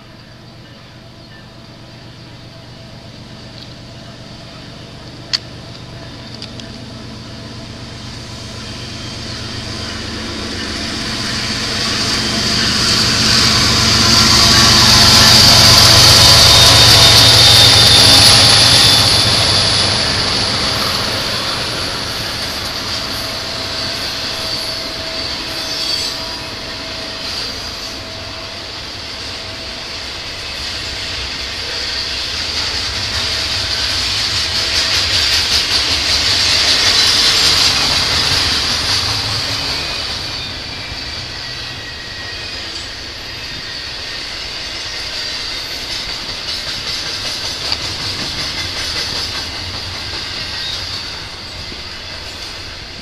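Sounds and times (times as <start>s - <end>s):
diesel locomotive passing: 0.0s - 53.0s.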